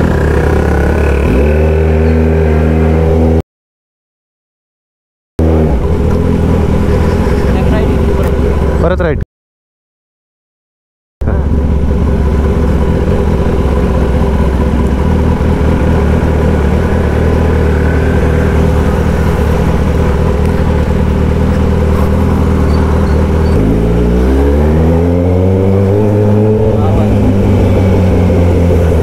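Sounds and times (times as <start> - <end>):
motorcycle engine revving: 0.0 - 3.4, 5.4 - 9.1, 11.2 - 29.0.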